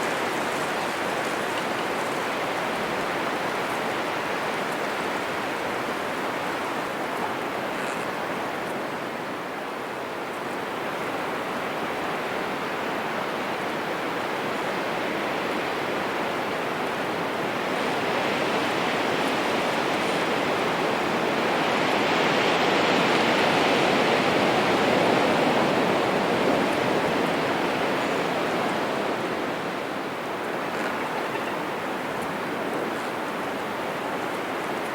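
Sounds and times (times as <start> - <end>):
wind gusting through trees: 0.0 - 34.9.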